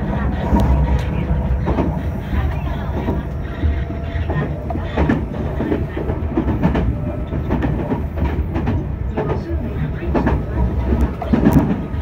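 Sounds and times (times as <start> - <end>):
train running low rumble: 0.0 - 12.0
wheels clacking over rail joints: 0.0 - 12.0.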